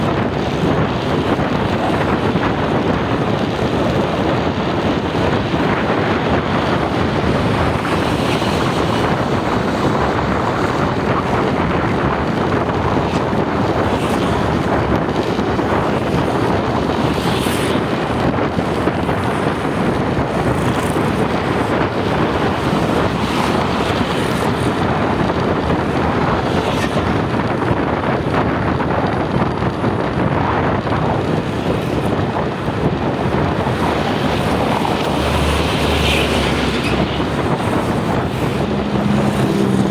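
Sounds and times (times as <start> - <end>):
vehicle noise: 0.0 - 39.9
wind rushing over microphone: 0.0 - 39.9.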